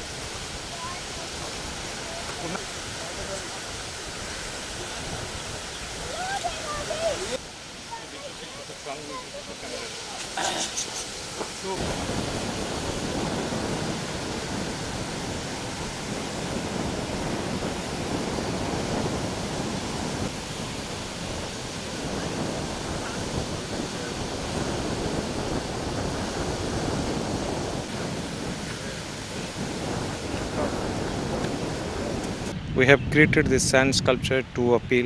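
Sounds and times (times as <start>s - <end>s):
sea surf washing onto beach: 0.0s - 32.9s
wind on microphone: 0.0s - 35.0s.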